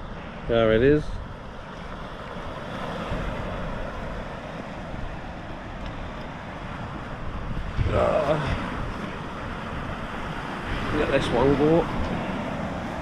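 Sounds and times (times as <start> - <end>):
sea surf on rocky shore: 0.0 - 13.0
wind rumbling on microphone: 0.0 - 13.0.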